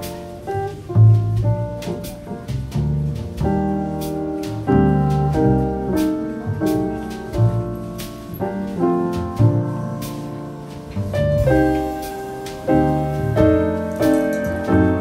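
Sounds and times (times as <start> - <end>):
jazzy piano tune: 0.0 - 15.0
low bass line: 0.0 - 15.0.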